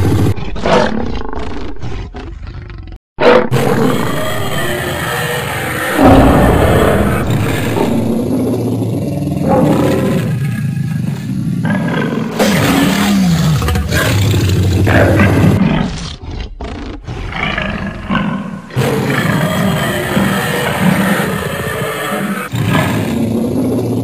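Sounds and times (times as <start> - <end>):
cartoon lion roaring: 0.0 - 24.0.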